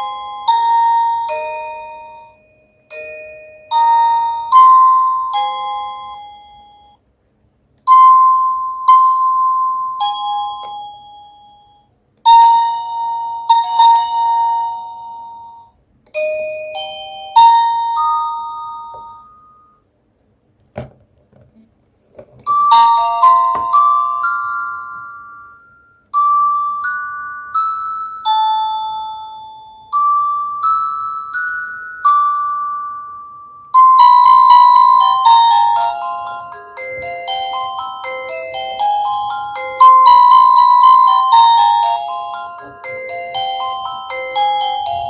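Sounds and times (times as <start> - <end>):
electronic doorbell chime tunes: 0.0 - 7.0, 7.9 - 19.9, 22.5 - 45.0.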